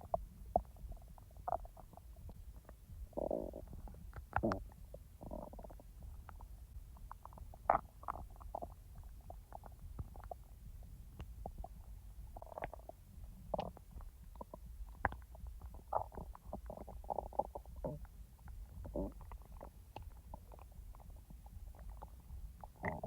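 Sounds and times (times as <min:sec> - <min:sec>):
low steady rumble: 0:00.0 - 0:23.0
stomach gurgling: 0:00.0 - 0:23.0.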